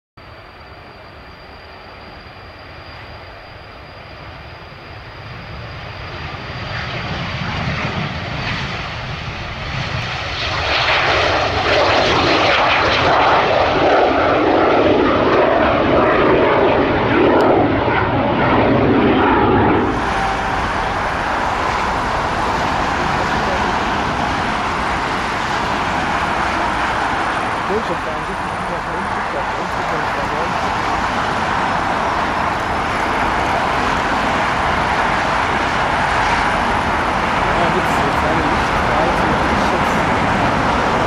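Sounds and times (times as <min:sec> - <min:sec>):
jet engines roaring at takeoff: 0:00.2 - 0:41.0.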